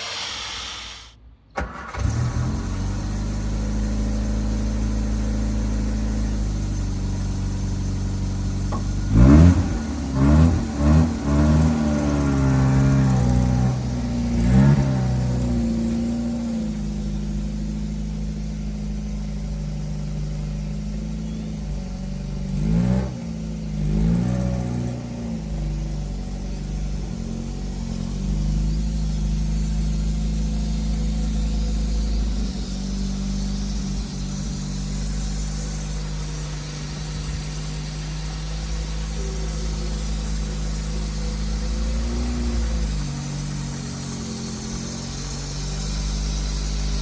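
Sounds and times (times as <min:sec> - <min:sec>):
car engine revving: 0:00.0 - 0:47.0
car engine running: 0:00.0 - 0:47.0.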